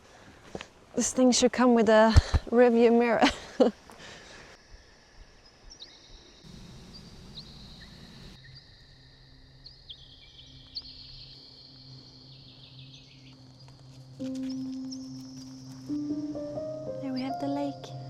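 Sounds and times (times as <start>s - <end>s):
faint woodland ambience: 0.0s - 18.0s.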